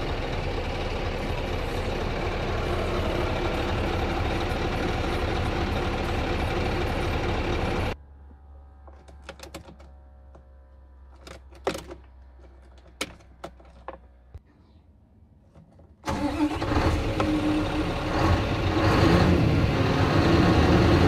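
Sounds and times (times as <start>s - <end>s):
diesel truck engine running: 0.0s - 13.0s, 16.1s - 21.0s.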